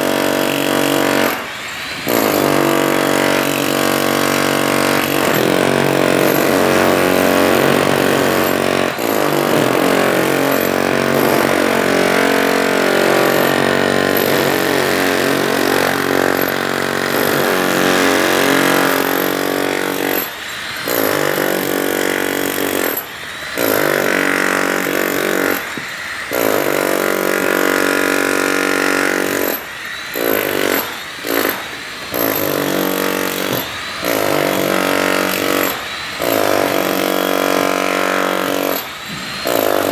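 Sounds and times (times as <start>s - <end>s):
power drill whining: 0.0s - 39.9s.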